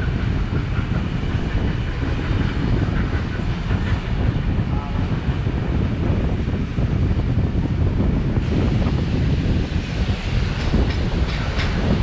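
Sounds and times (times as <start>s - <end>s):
steam train rumbling: 0.0s - 12.0s
wind buffeting microphone: 0.0s - 12.0s.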